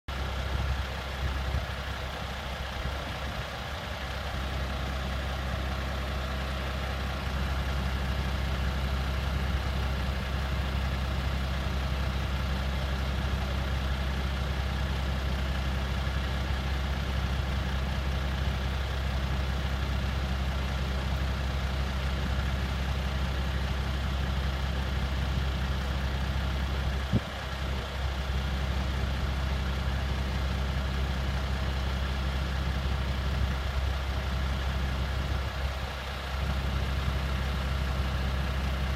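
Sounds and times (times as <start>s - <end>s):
diesel engine idling: 0.1s - 38.9s.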